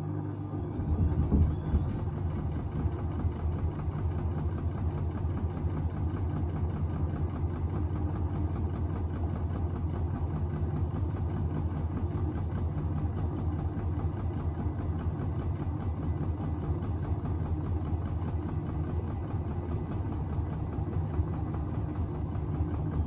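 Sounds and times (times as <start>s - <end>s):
low motor hum: 0.0s - 23.0s
washing machine drum turning laundry: 0.0s - 23.0s.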